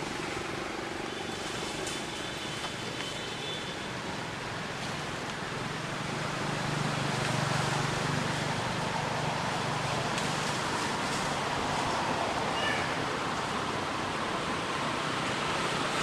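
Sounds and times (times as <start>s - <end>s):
distant engine hum: 0.0s - 16.0s
outdoor background noise: 0.0s - 16.0s.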